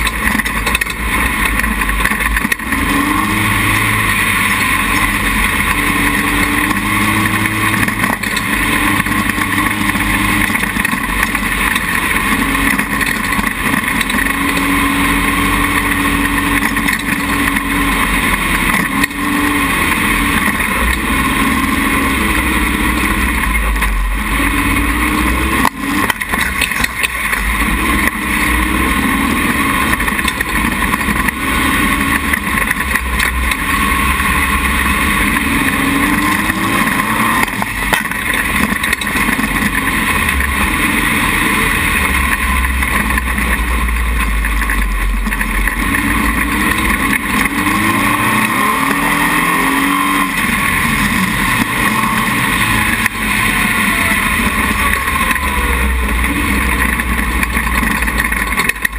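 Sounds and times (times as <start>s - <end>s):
dune buggy engine revving: 0.0s - 58.9s.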